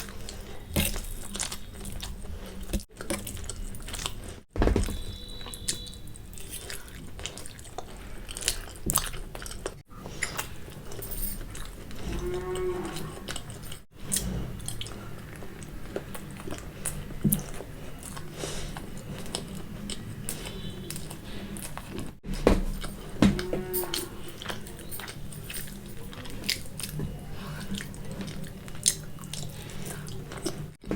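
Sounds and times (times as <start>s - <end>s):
wet chewing mouth sounds: 0.0s - 4.5s, 5.7s - 22.2s, 23.4s - 30.9s.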